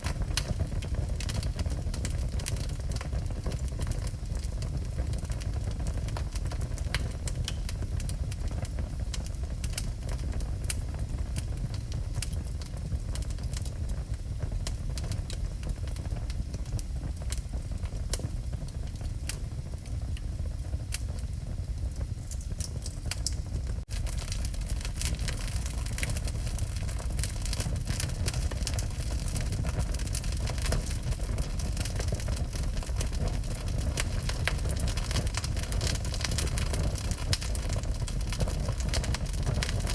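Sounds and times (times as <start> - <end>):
crackles and pops of burning logs: 0.0 - 39.9
low rumble of flames: 0.0 - 39.9.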